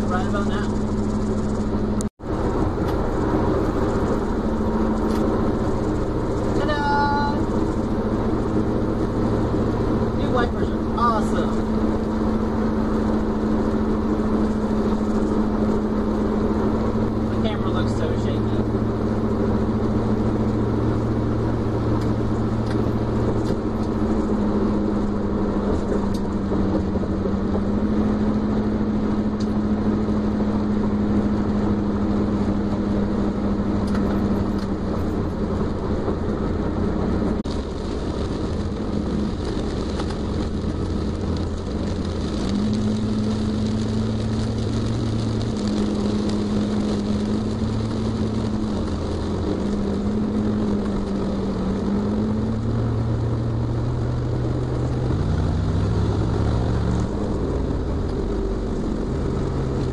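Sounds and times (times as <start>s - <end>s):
car engine drone: 0.0s - 59.9s.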